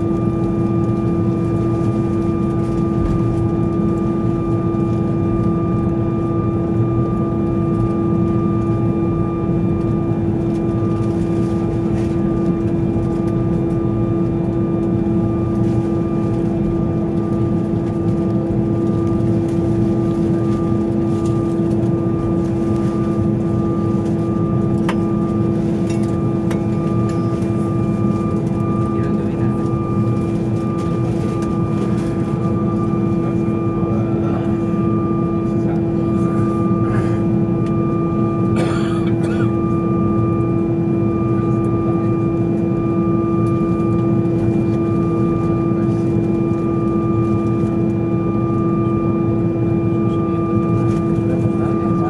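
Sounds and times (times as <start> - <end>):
aircraft cabin drone: 0.0 - 52.0.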